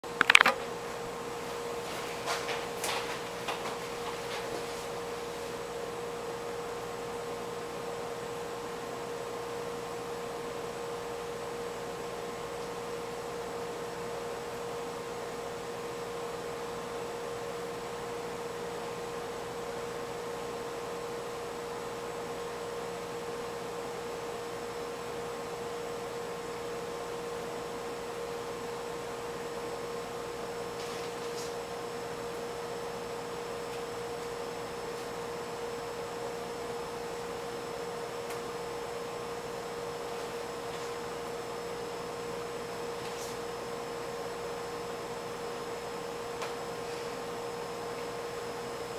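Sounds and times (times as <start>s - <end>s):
steady hum: 0.0s - 48.9s.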